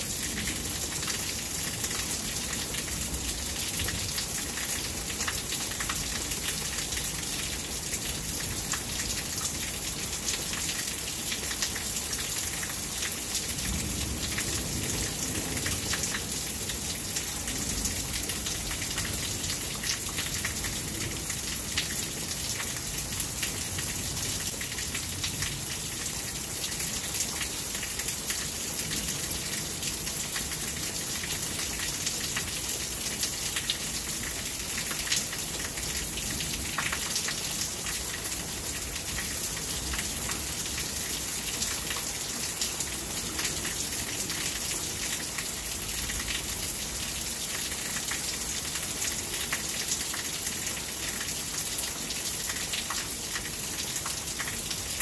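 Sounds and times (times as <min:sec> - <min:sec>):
raindrops striking close by: 0:00.0 - 0:55.0
steady rain: 0:00.0 - 0:55.0.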